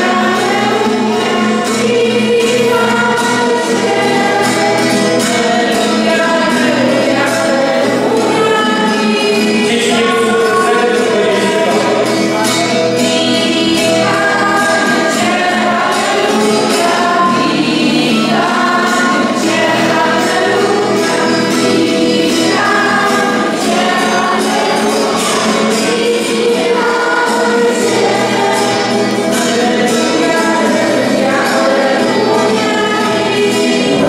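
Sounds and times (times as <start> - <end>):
group of voices singing: 0.0 - 34.0
strummed acoustic guitar: 0.0 - 34.0.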